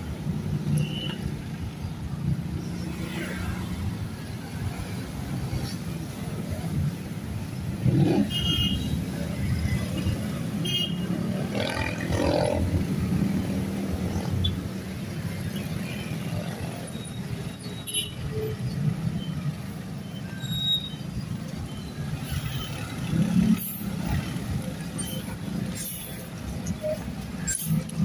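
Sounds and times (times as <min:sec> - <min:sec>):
vehicles driving past: 0:00.0 - 0:17.6, 0:18.3 - 0:28.0.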